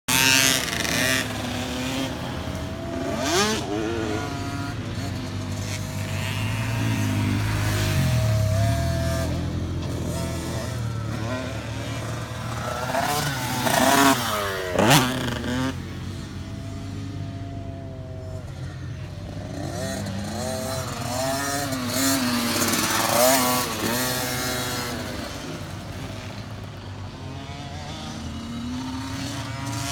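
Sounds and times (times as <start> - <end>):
dirt bike engines revving: 0.0 - 29.9.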